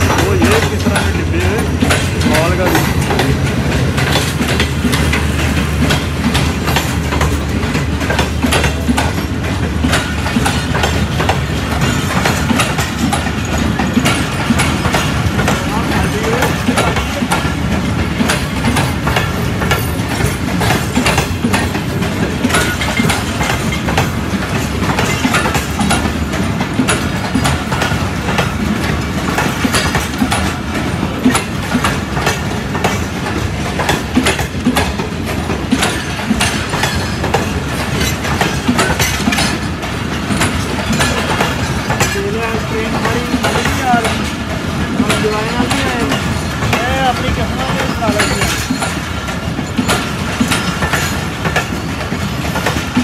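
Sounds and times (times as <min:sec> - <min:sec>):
train coaches rumbling and rattling: 0:00.0 - 0:53.0
wheel clicks over rail joints: 0:00.0 - 0:53.0.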